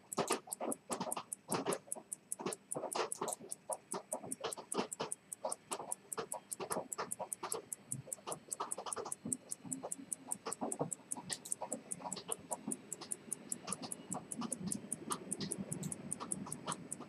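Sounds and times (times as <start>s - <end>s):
irregular clicks and knocks: 0.0s - 17.0s
pocket watch ticking: 0.0s - 17.0s.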